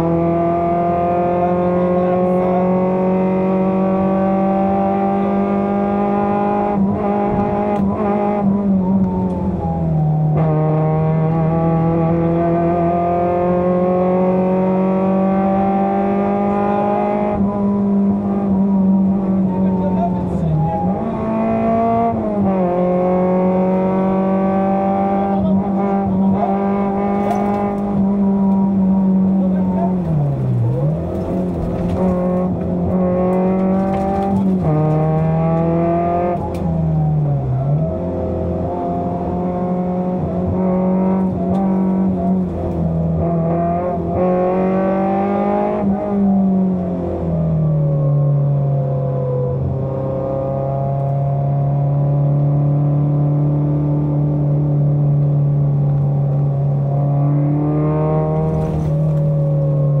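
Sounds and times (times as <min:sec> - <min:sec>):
rally car engine revving: 0:00.0 - 1:00.0.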